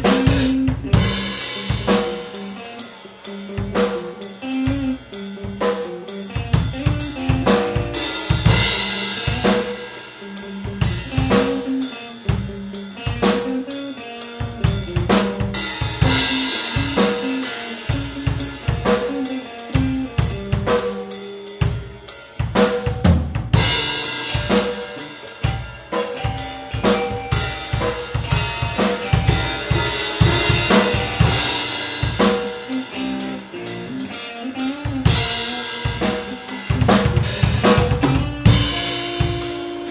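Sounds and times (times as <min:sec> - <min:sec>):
drum kit beat: 0:00.0 - 0:39.9
guitar playing: 0:00.0 - 0:39.9.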